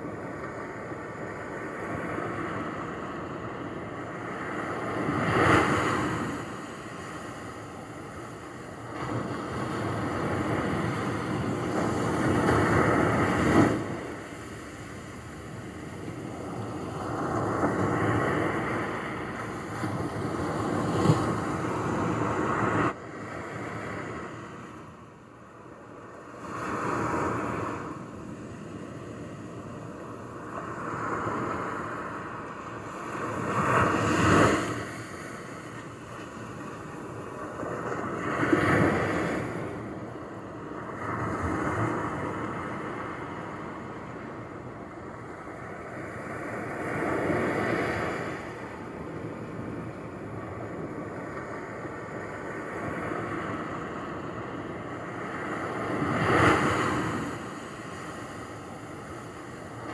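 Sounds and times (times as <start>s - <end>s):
small waves lapping on shore: 0.0s - 59.9s.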